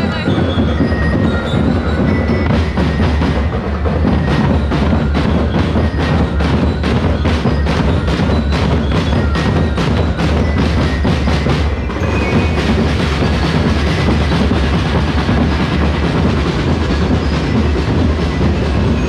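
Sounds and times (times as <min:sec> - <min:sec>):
drums and sticks beating: 0:00.0 - 0:19.0.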